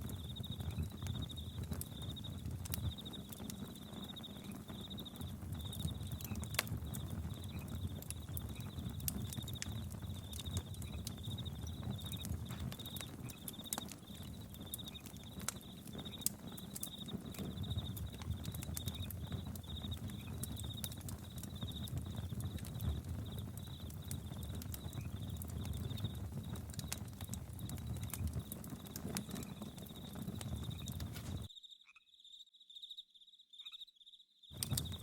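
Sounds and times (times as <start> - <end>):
campfire crackling and popping: 0.0 - 31.5, 34.5 - 35.0
crickets chirping: 0.0 - 35.0.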